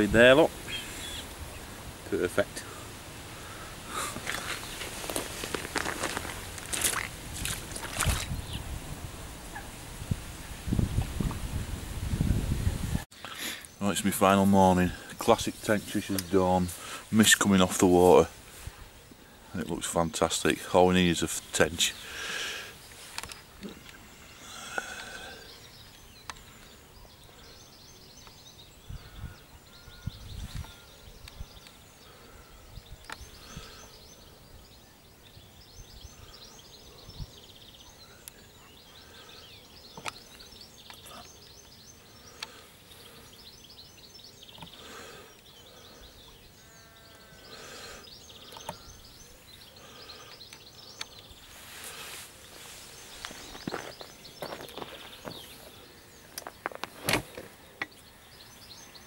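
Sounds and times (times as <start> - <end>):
birds singing: 0.0 - 8.8, 13.2 - 59.0.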